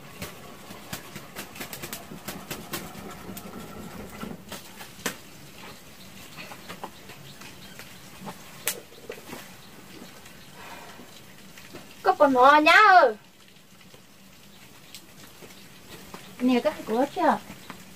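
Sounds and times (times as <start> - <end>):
wood fire crackling and snapping: 0.0 - 10.5, 11.1 - 17.9.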